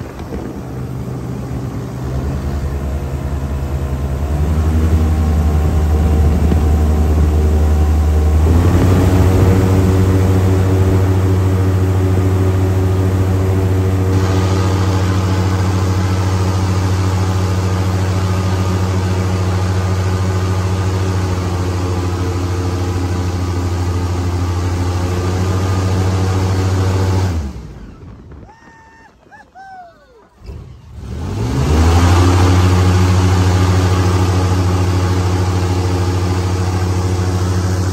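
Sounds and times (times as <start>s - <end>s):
rush of wind: 0.0s - 18.5s, 25.7s - 37.9s
airboat engine and propeller: 0.0s - 29.0s, 30.4s - 37.9s.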